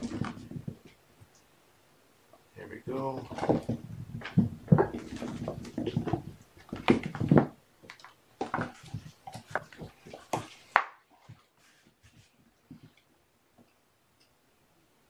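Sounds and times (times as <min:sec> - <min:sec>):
objects being handled: 0:00.0 - 0:01.4, 0:02.9 - 0:13.8.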